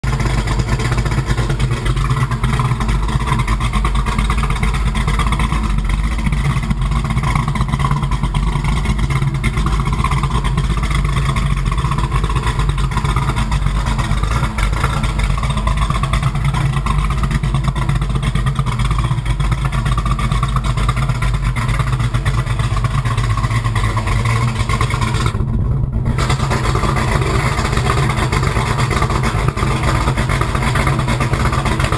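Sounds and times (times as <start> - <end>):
car exhaust rumble: 0.0 - 31.9.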